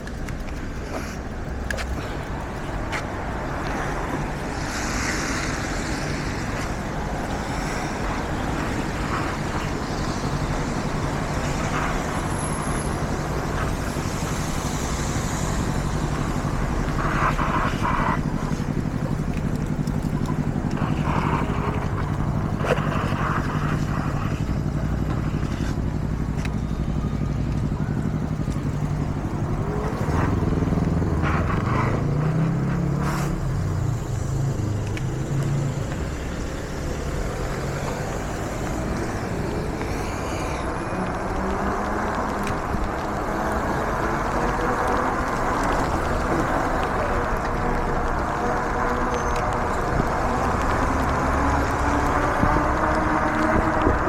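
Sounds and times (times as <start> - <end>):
motor vehicle passing: 0.0 - 54.0
wind and tyre noise: 0.0 - 54.0.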